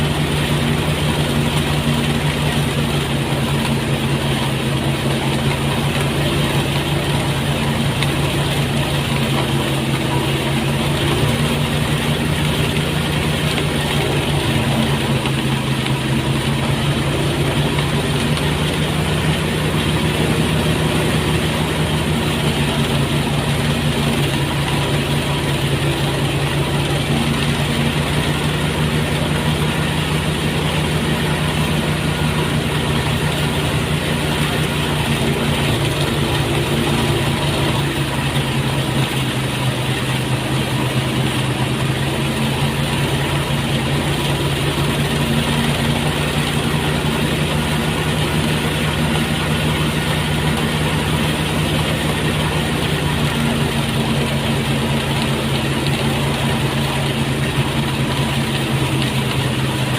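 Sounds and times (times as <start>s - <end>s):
threshing machine engine running: 0.0s - 59.9s.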